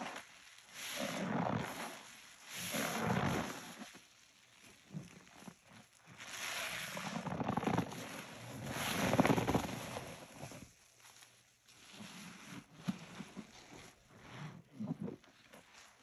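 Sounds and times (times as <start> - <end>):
sponge squelching crackles: 0.0 - 16.0.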